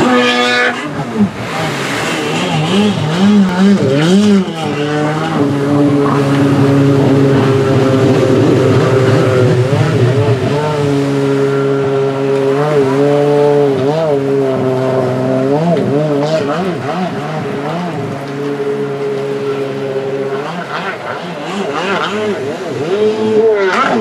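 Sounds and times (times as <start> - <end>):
jet ski engine revving: 0.0 - 24.0.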